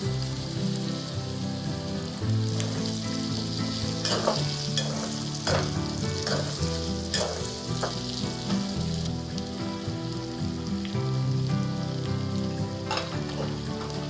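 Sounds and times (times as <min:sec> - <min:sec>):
background music low notes: 0:00.0 - 0:14.0
meat sizzling in a pan: 0:00.0 - 0:14.0.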